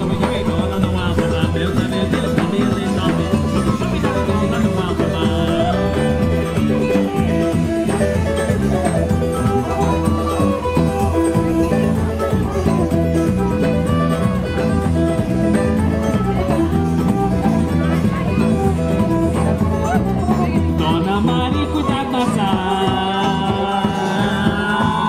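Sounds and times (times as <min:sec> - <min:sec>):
live band instrumental music: 0:00.0 - 0:25.0.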